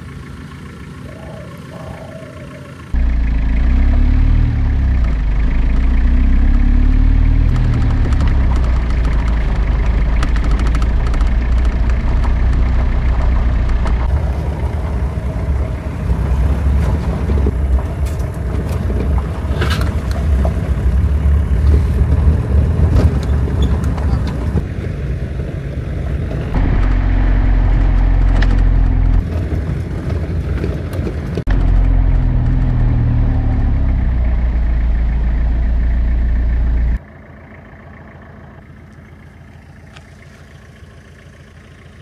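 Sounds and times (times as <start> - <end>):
engine and gravel road rumble: 0.0 - 42.0.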